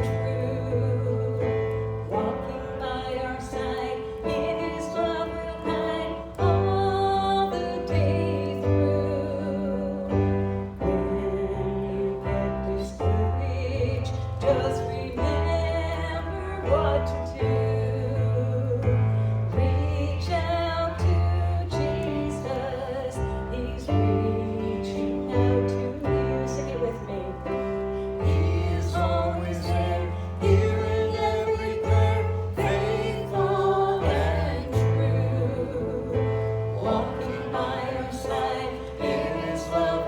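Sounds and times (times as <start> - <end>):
keyboard and bass accompaniment: 0.0 - 40.0.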